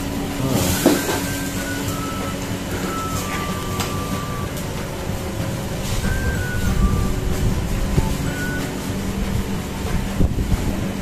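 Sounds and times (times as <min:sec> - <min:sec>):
gas stove and fans rumbling: 0:00.0 - 0:11.0.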